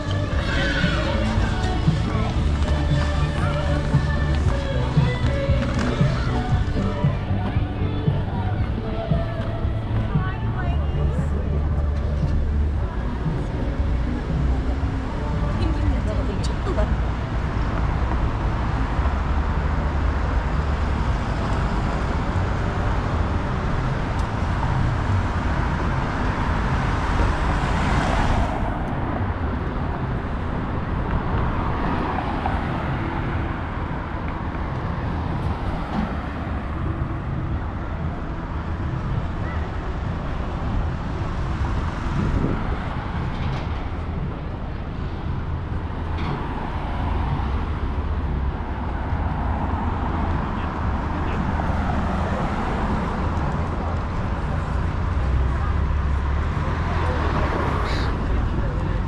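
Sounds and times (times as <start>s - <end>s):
traffic hum: 0.0s - 59.0s.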